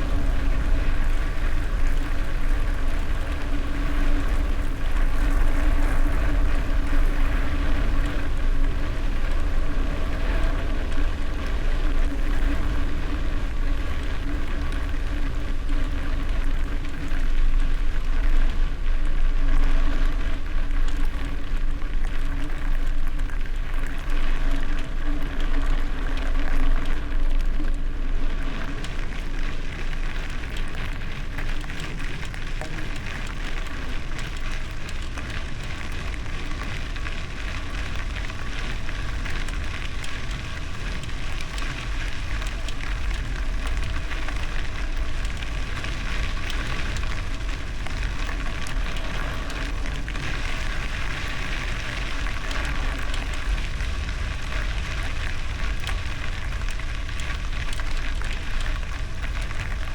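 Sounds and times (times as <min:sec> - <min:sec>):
bicycle tyres rolling on gravel: 0:00.0 - 0:59.9
wind rumbling on microphone: 0:00.0 - 0:59.9.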